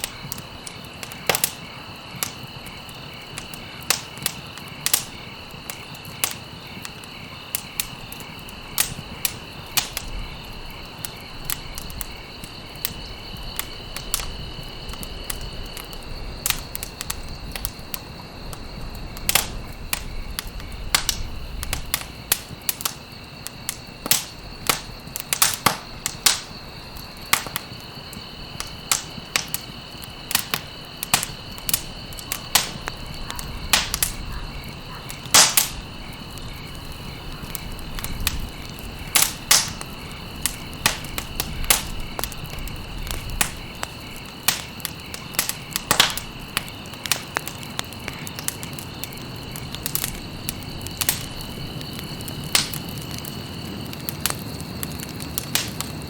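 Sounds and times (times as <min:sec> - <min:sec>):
burning stalks popping: 0:00.0 - 0:56.0
campfire crackling: 0:00.0 - 0:56.0
low rush of flame: 0:00.0 - 0:56.0.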